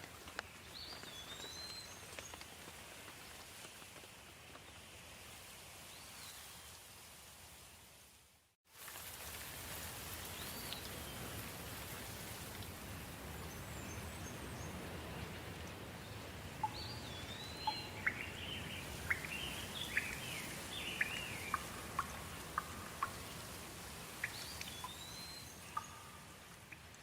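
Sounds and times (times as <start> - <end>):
soft rain falling: 0.0 - 27.0.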